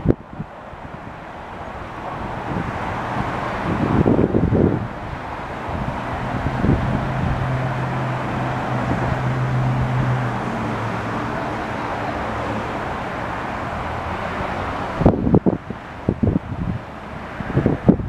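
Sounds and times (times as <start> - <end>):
diesel train drone: 0.0 - 18.0
road traffic rumble: 0.0 - 18.0.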